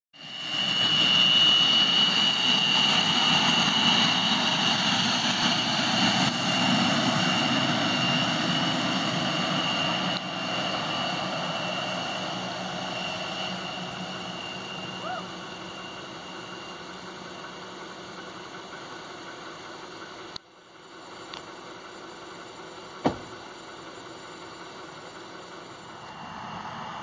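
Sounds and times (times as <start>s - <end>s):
jet engines whining: 0.2s - 27.0s.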